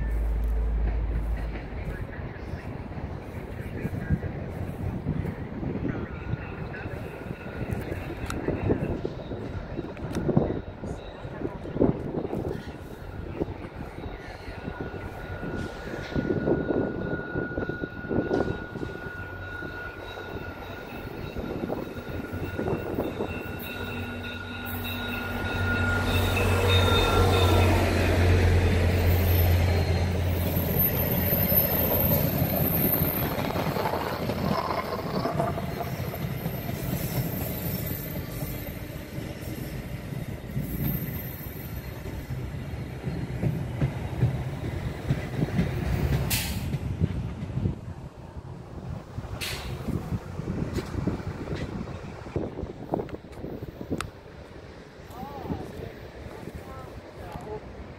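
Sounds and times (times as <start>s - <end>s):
locomotive engine drone: 0.0s - 57.9s
train coaches rumbling on rails: 0.0s - 57.9s.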